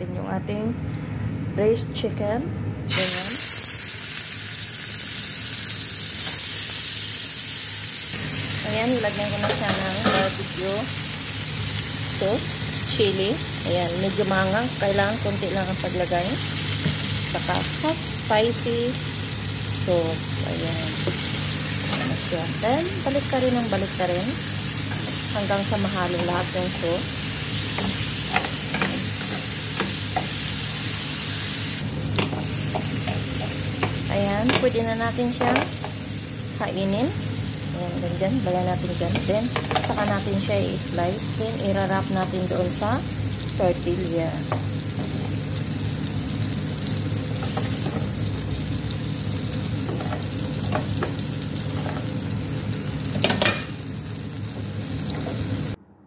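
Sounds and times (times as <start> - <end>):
chicken sizzling in grill pan: 2.9 - 55.8.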